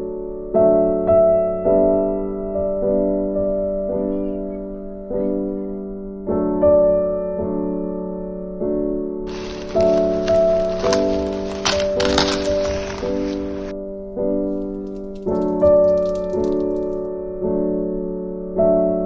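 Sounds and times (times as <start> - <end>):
soft piano chords: 0.0 - 19.0.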